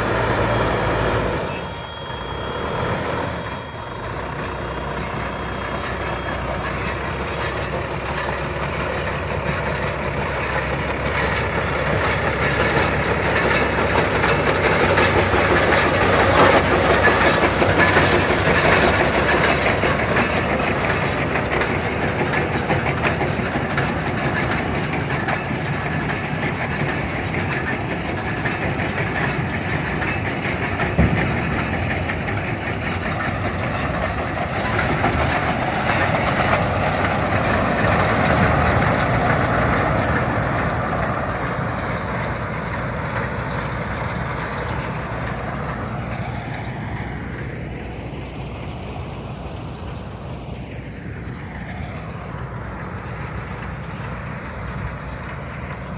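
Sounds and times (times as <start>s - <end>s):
baler mechanical clatter: 0.0s - 47.5s
engine hum: 0.0s - 55.9s.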